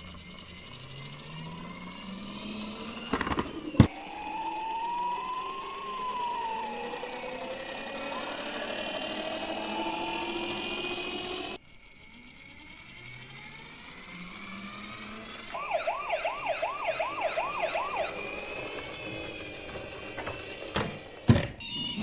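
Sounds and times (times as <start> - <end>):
toy car wheels whirring: 0.0 - 22.0.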